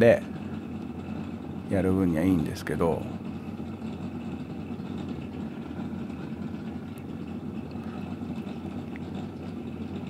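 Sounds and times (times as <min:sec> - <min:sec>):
machine buzzing hum: 0:00.0 - 0:10.0.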